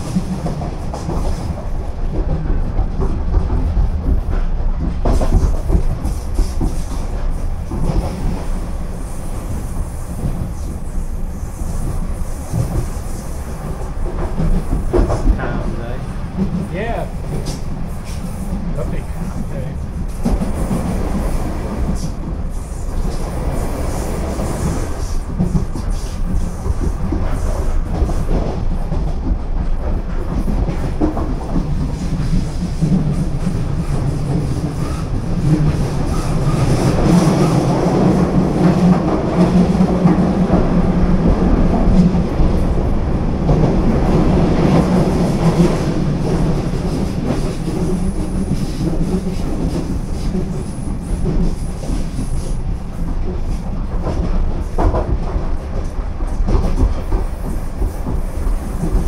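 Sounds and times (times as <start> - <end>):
low train hum: 0.0 - 59.0.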